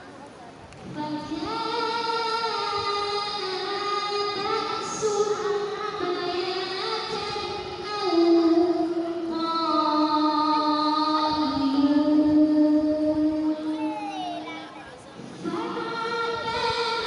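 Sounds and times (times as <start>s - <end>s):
boy chanting into a microphone: 0.0s - 17.0s.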